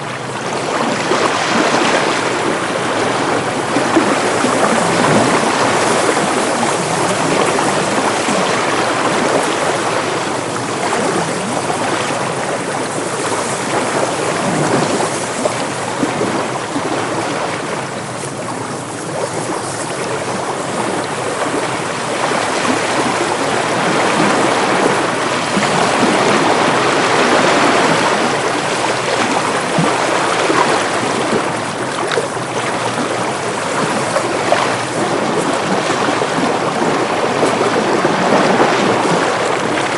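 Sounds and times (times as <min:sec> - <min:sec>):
sea waves washing in: 0:00.0 - 0:39.9
wind: 0:00.0 - 0:39.9.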